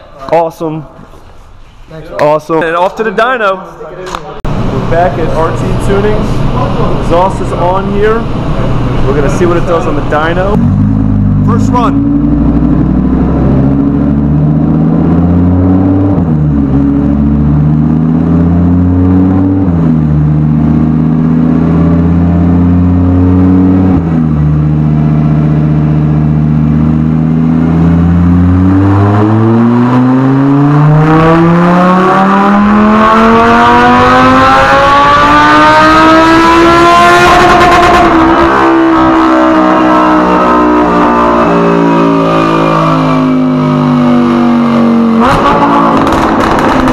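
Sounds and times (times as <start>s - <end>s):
sports car engine revving: 4.5s - 46.9s.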